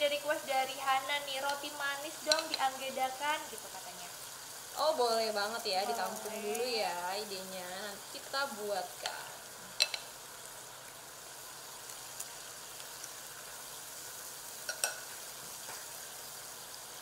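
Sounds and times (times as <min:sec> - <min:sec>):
batter sizzling in a pan: 0:00.0 - 0:17.0.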